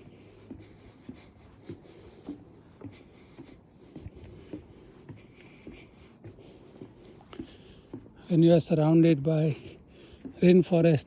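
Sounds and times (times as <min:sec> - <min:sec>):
footsteps on wooden boardwalk: 0:00.0 - 0:11.0.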